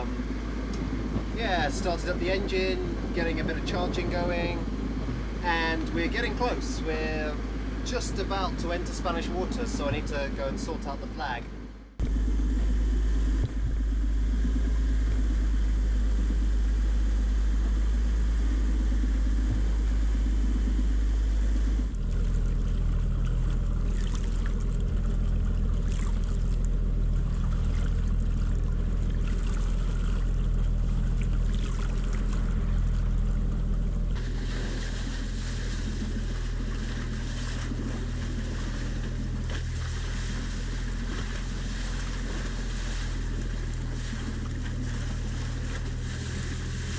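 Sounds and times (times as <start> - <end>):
water rushing along hulls: 0.0 - 46.9.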